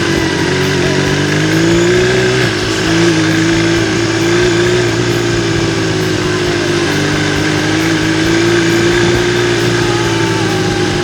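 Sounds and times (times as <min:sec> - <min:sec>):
motorcycle engine cruising: 0:00.0 - 0:11.0
rushing noise: 0:00.0 - 0:11.0.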